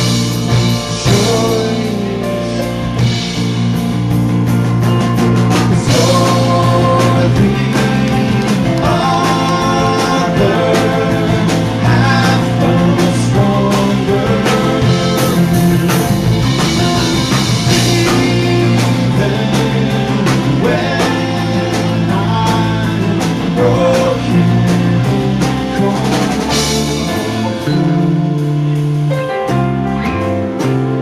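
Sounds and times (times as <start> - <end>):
live rock band playing: 0.0 - 31.0
person singing: 0.6 - 3.1, 5.5 - 28.8.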